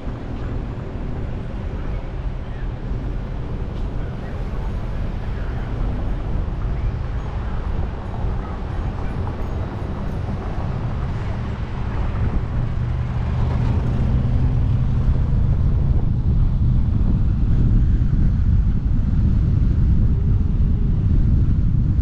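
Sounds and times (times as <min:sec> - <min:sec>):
car engine and road noise: 0:00.0 - 0:22.0
wind on microphone: 0:00.0 - 0:22.0.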